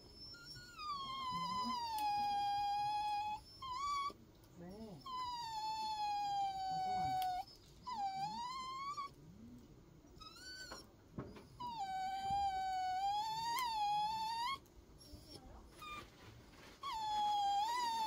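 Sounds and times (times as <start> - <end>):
dog whining: 0.0 - 18.0.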